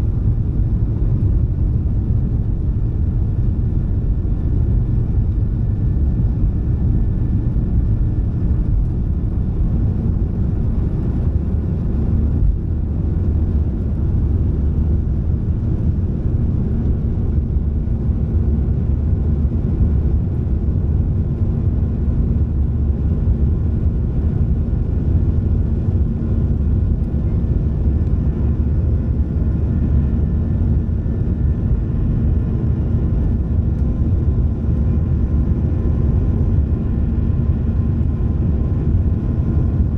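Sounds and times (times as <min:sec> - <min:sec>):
jet engines low rumble: 0:00.0 - 0:39.9.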